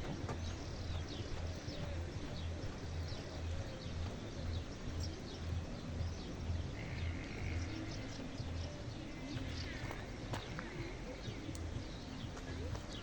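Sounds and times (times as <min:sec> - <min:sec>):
low even thumping pulse: 0:00.0 - 0:13.0
small birds chirping: 0:00.0 - 0:13.0.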